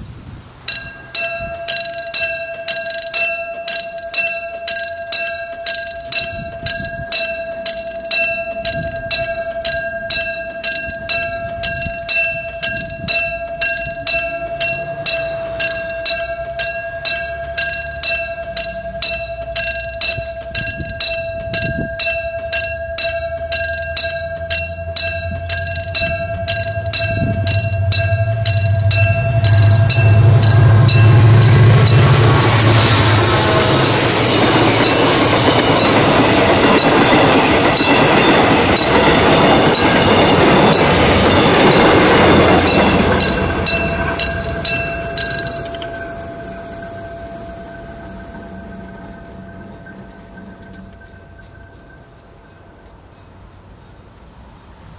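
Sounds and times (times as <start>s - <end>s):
low rumble of train: 0.0s - 54.9s
level crossing bell ringing: 0.7s - 52.8s.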